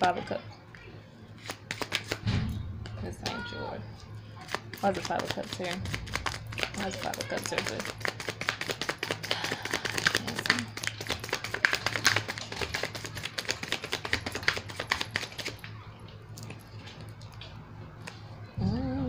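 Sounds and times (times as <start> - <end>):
cards being shuffled: 1.4 - 3.4, 4.0 - 18.2.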